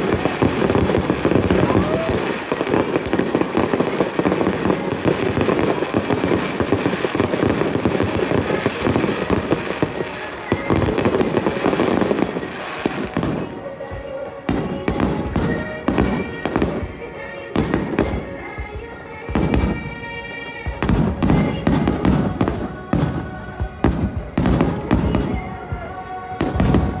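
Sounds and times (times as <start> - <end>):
fireworks bursts and crackles: 0.0 - 27.0.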